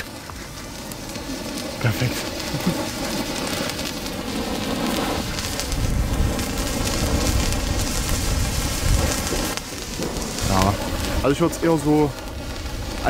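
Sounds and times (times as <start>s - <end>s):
low rumble: 0.0s - 13.0s
torch fizzing and crackling: 0.0s - 13.0s.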